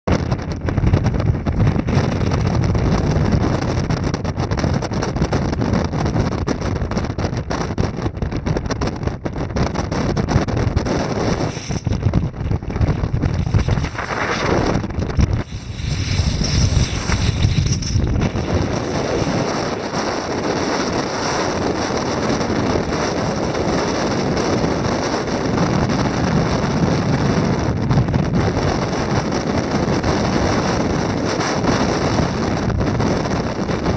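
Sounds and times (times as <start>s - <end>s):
strong wind buffeting microphone: 0.0s - 33.9s.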